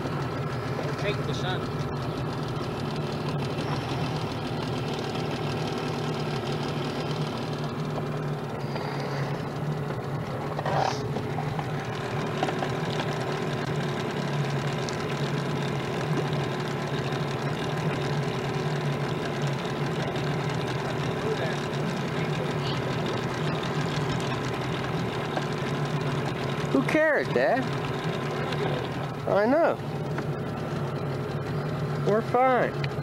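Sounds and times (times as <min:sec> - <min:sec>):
outboard motor humming: 0:00.0 - 0:33.0.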